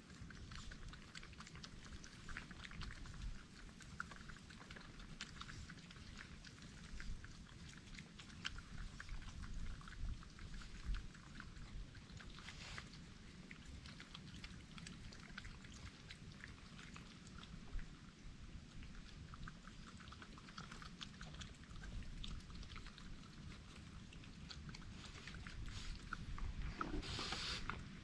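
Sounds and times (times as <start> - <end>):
animals crunching and smacking: 0.0 - 28.0.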